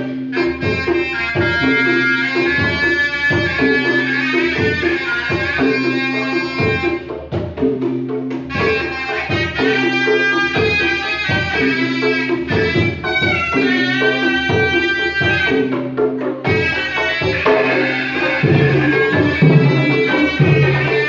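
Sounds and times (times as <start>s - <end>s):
reed shawm melody: 0.0s - 21.0s
steady drum beats: 0.0s - 21.0s.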